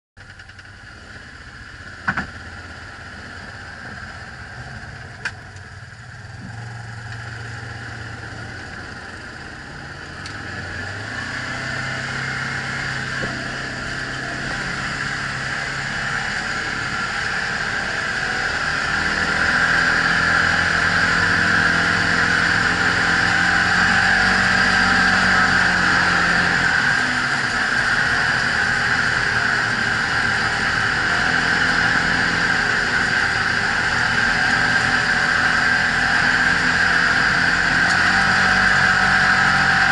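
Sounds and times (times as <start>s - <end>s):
utility vehicle engine running: 0.2s - 39.9s.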